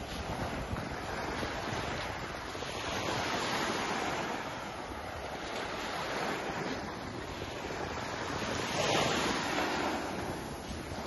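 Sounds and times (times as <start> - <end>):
small waves breaking on shore: 0.0 - 11.0
wind on microphone: 0.0 - 11.0.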